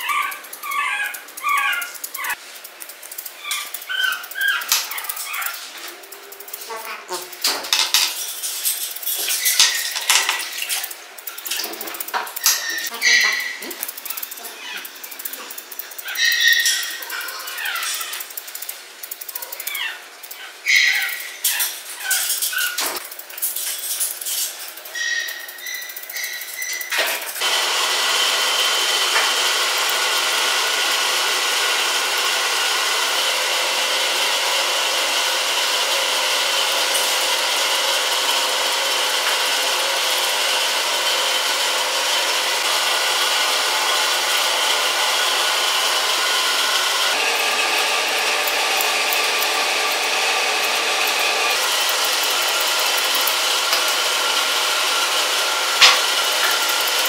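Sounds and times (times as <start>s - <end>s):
small motor whirring: 0.0s - 57.0s.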